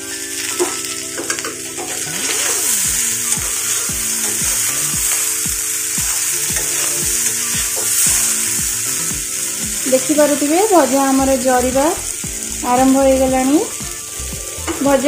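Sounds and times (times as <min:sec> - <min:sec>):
vegetables sizzling in oil: 0:00.0 - 0:15.0
background music with thumping beat: 0:00.6 - 0:15.0.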